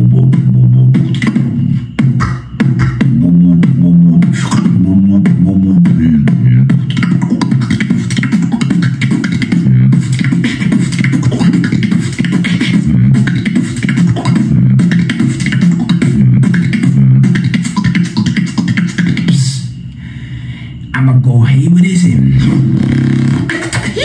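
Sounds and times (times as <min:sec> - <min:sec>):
steady low bass: 0:00.0 - 0:18.2, 0:21.3 - 0:23.5
person beatboxing: 0:00.0 - 0:19.8, 0:22.0 - 0:24.0.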